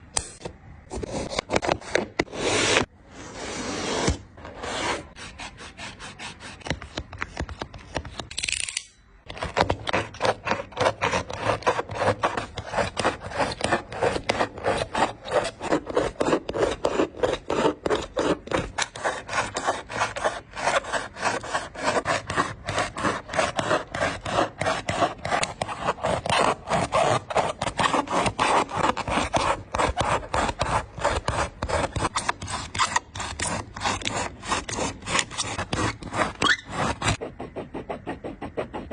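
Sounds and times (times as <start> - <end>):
blade rasping through sneaker: 0.2 - 8.3, 9.3 - 38.9.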